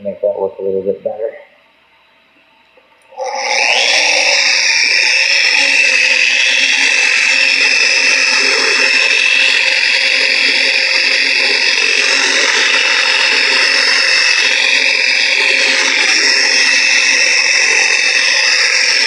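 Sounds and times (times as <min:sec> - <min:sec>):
orbital polisher running: 0:03.0 - 0:19.0.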